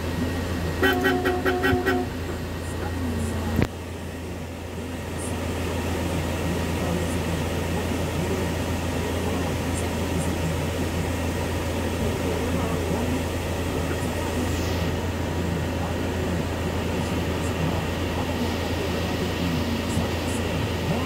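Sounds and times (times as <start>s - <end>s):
van engine idling: 0.0s - 21.0s.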